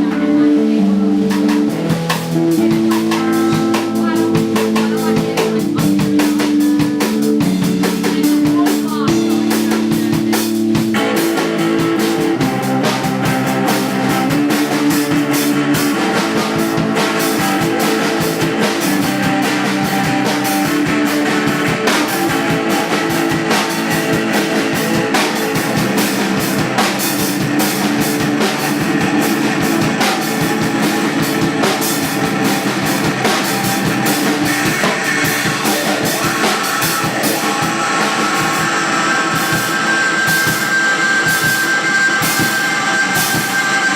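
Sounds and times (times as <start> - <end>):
drum kit beat: 0.0 - 43.9
live band playing: 0.0 - 43.9.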